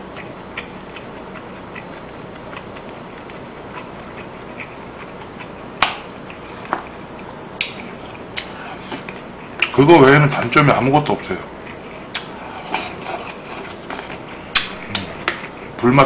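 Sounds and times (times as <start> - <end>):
chewing with mouth clicks: 0.0 - 9.8, 11.4 - 15.8.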